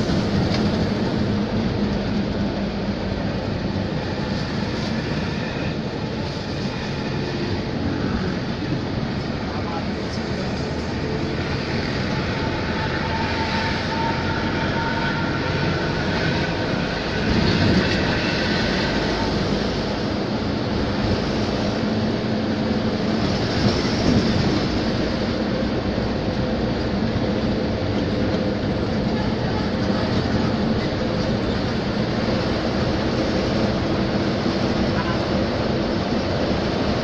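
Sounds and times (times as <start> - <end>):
vehicle driving on highway: 0.0 - 37.0.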